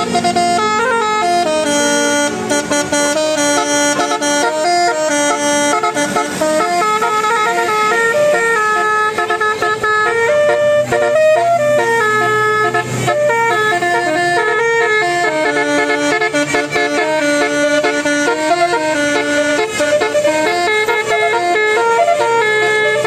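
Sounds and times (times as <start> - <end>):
musical vehicle horn playing: 0.0 - 23.0.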